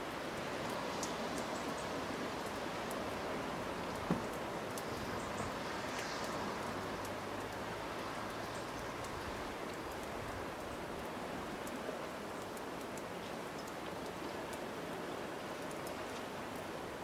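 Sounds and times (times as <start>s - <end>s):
hiss of wind and water: 0.0s - 17.0s
faint ticks: 0.4s - 3.0s, 3.9s - 6.4s, 7.0s - 16.7s.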